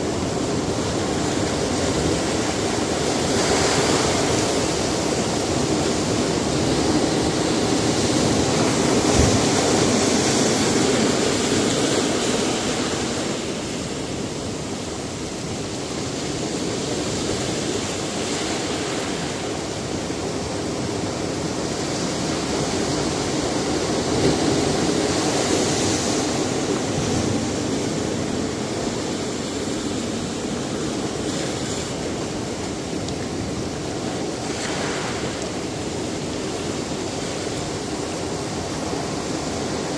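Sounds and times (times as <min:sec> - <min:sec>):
surf breaking on rocky shore: 0:00.0 - 0:39.9.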